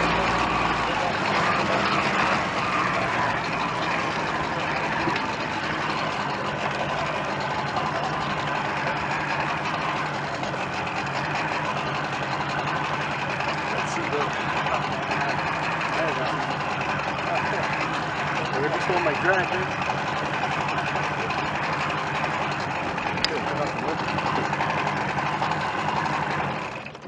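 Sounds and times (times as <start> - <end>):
outboard motor running: 0.0 - 27.0
water noise: 0.0 - 27.0.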